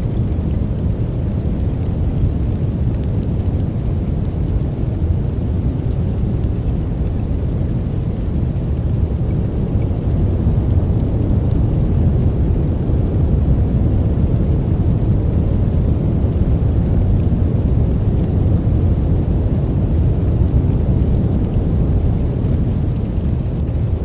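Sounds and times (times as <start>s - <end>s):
deep brown noise: 0.0s - 24.0s.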